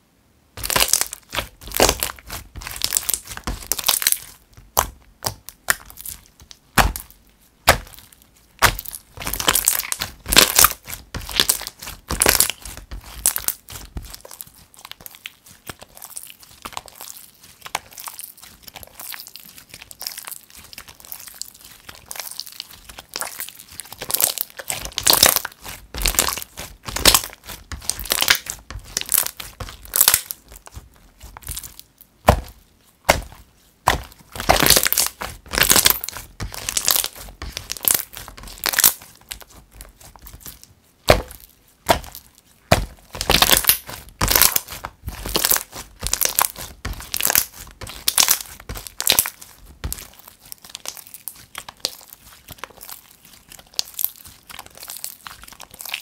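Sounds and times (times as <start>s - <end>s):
slime squelching and crackling: 0.6s - 56.0s.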